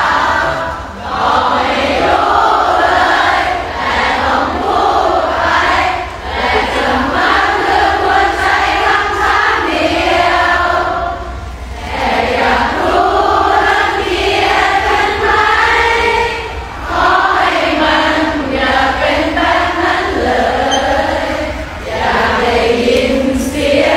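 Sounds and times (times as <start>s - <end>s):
crowd singing in unison: 0.0s - 23.9s.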